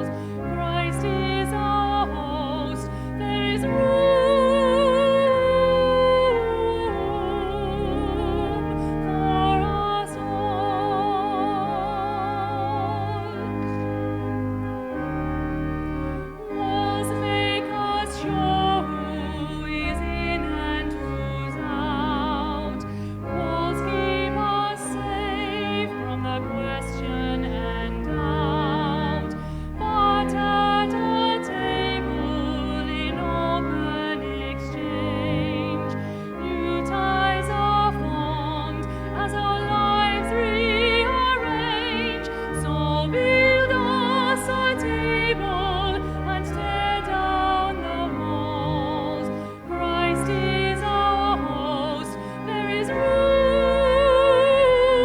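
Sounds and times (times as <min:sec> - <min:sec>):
organ chords: 0:00.0 - 0:55.0.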